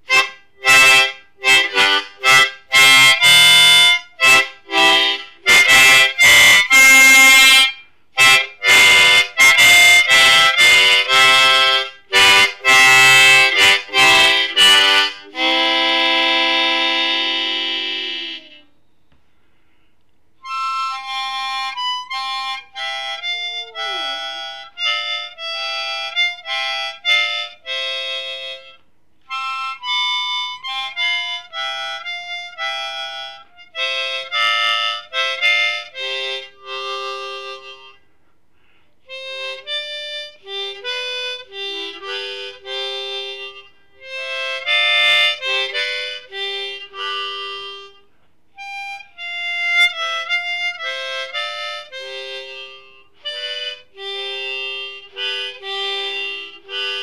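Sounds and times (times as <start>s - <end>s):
solo harmonica playing: 0.0s - 19.8s, 20.4s - 57.0s.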